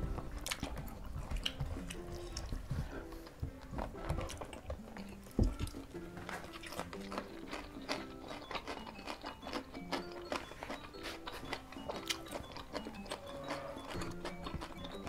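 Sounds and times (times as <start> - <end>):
soft background music: 0.0 - 15.0
chewing and mouth clicks: 0.1 - 15.0.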